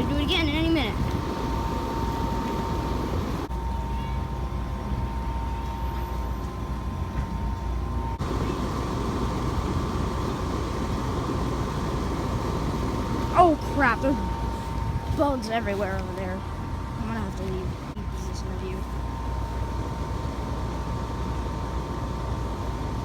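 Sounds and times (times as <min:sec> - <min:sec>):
air conditioner unit running: 0:00.0 - 0:23.0.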